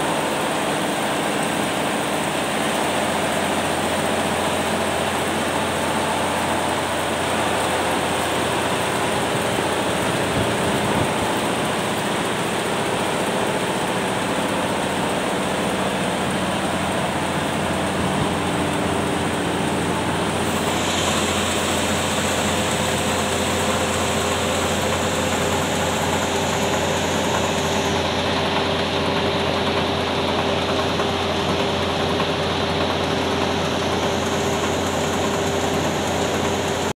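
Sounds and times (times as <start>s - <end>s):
large diesel engine running: 0.0s - 36.9s.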